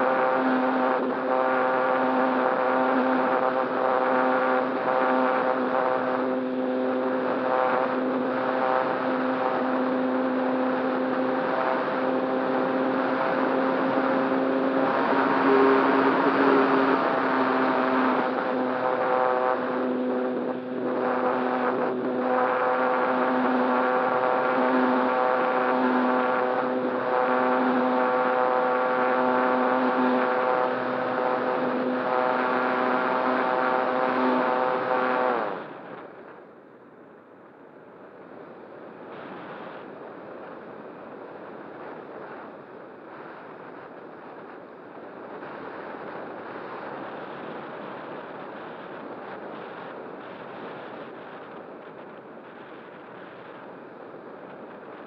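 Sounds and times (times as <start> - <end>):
model motor and propeller running: 0.0 - 36.4, 39.1 - 55.0.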